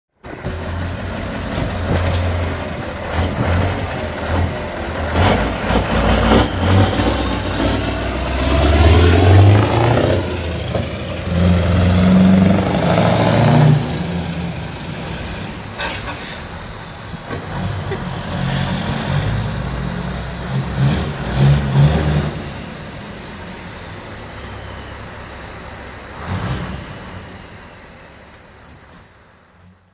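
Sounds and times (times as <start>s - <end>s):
diesel truck engine revving: 0.2s - 15.8s, 16.5s - 28.0s.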